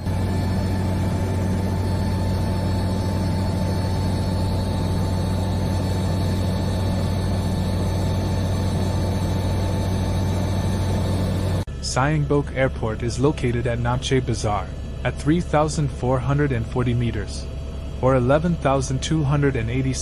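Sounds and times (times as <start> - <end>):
helicopter droning in flight: 0.0 - 20.0.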